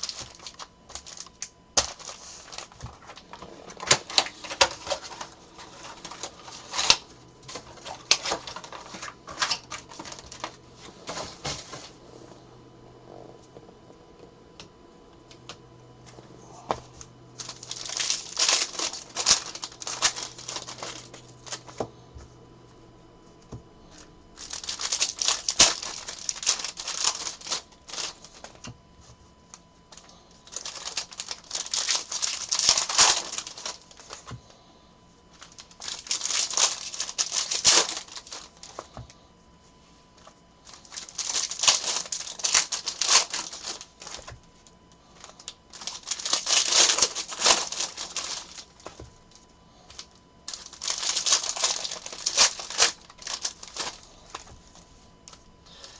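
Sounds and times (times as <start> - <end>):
plastic packaging crinkling: 0.0 - 12.1, 16.6 - 21.9, 23.9 - 34.5, 35.2 - 39.1, 40.1 - 55.9.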